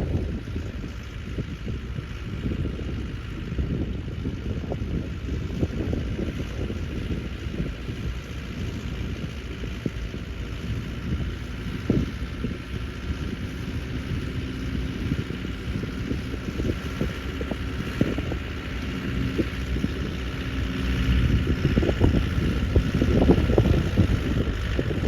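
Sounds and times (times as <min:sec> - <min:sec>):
crackly wind noise on microphone: 0:00.0 - 0:25.0
tractor engine running: 0:00.0 - 0:25.0.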